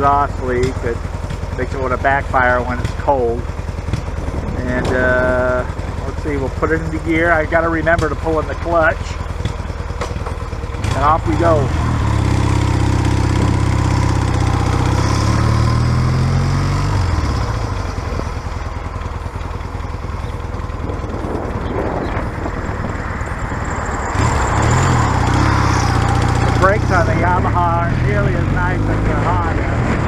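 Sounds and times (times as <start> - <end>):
motorcycle engine pulling away: 0.0 - 30.0.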